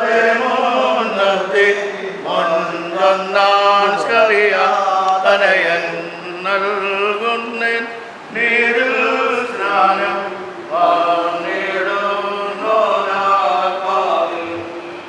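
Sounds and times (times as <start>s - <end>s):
voices chanting a slow hymn: 0.0s - 15.0s.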